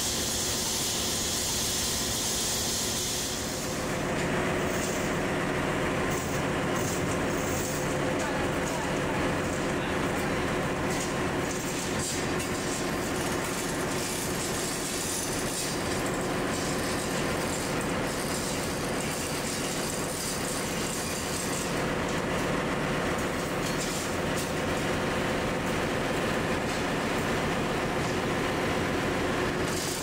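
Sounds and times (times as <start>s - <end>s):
engine room machinery drone: 0.0s - 30.0s.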